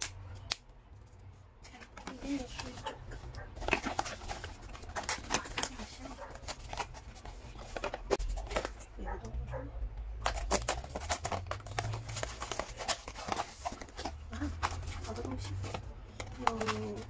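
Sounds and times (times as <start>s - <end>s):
paper crinkling and rustling: 1.7s - 9.1s, 10.2s - 17.0s.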